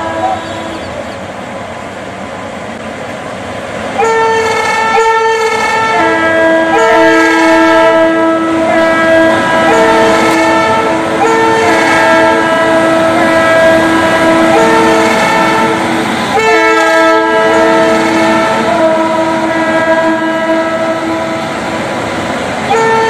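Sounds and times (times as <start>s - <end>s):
locomotive two-tone air horns: 0.0s - 1.0s, 4.0s - 21.6s, 22.7s - 23.0s
train running noise: 0.0s - 23.0s.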